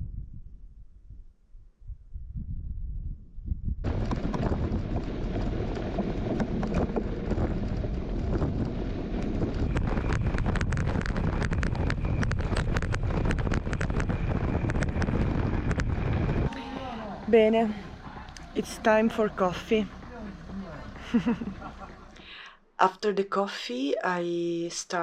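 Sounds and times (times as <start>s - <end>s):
wind on microphone: 0.0s - 22.1s.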